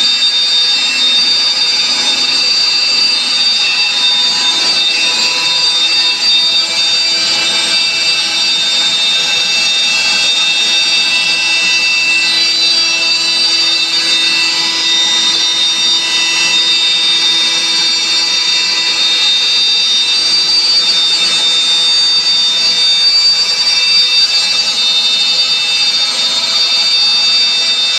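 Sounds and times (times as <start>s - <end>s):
router bit cutting plywood: 0.0s - 27.9s
router spindle whine: 0.0s - 27.9s.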